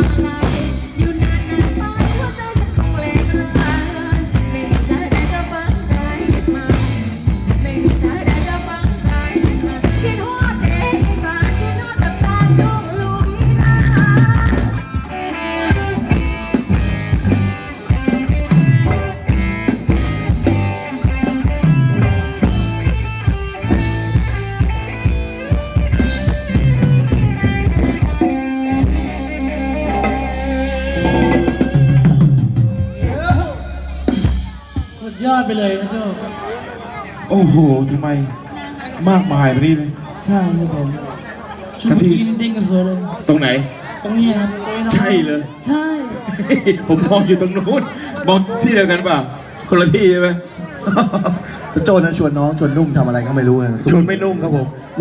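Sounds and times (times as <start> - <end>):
band playing dance music: 0.0 - 50.8.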